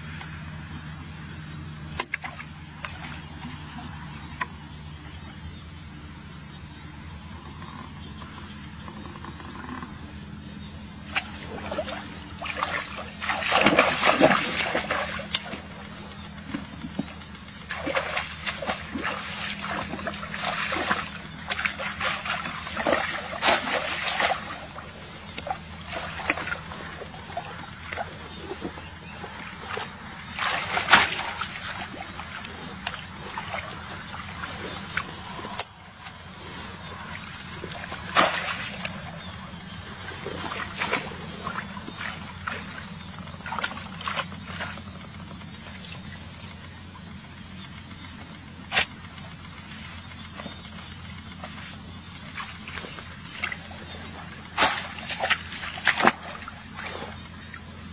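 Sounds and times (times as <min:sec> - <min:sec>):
pond water splashing: 0:00.0 - 0:57.9.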